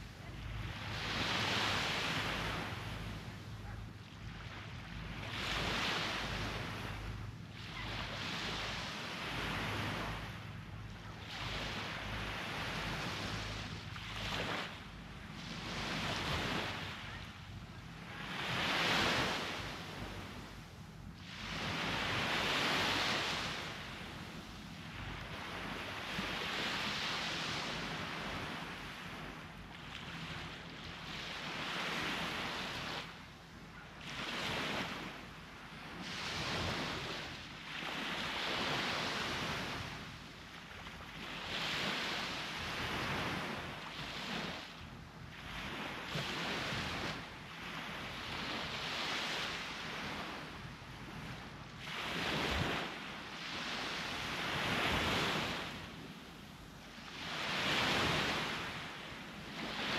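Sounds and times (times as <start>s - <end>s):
sea waves breaking on shore: 0.0s - 59.9s
wind rumble on microphone: 0.0s - 59.9s.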